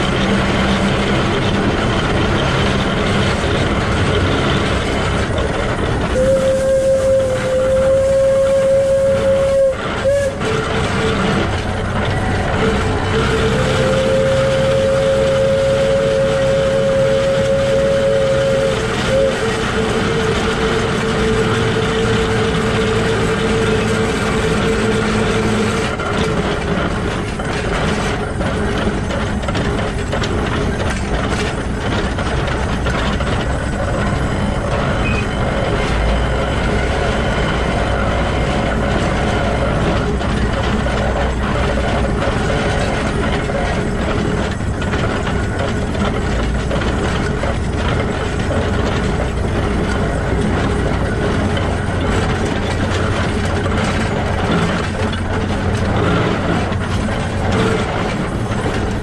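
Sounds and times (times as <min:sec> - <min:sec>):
locomotive gears clattering: 0:00.0 - 0:59.0
wheels rolling on rails: 0:00.0 - 0:59.0.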